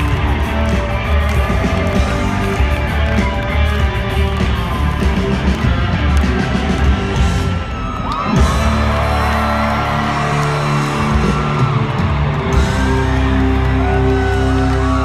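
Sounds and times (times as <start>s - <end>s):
live country-rock band: 0.0s - 15.0s.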